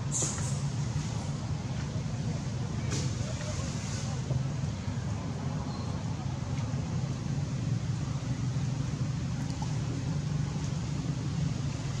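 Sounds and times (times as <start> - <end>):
steady low rumble with hiss: 0.0 - 12.0.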